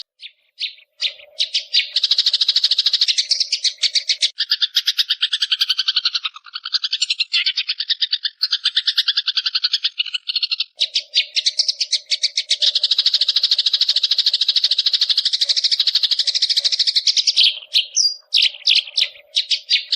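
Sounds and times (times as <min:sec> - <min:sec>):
bird fast chattering song: 0:00.0 - 0:19.9.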